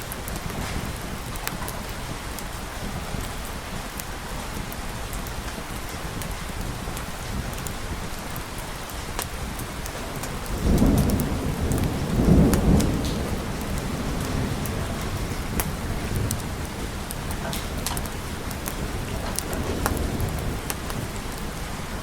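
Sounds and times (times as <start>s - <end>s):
low thunder rumble: 0.0s - 22.0s
steady rain: 0.0s - 22.0s.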